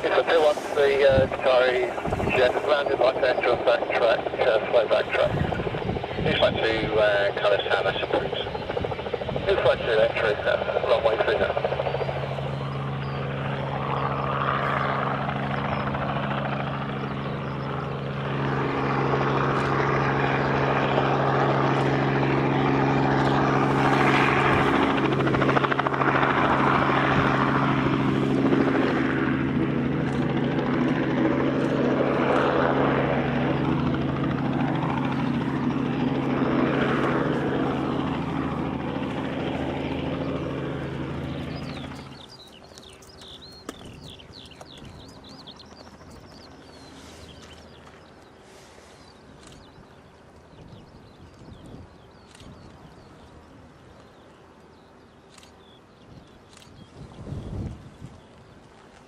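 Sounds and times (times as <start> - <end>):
helicopter rotor drone: 0.0 - 59.0.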